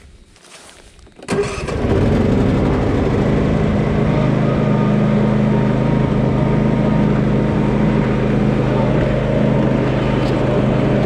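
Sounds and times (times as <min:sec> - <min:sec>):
chainsaw engine running: 0:01.3 - 0:11.0.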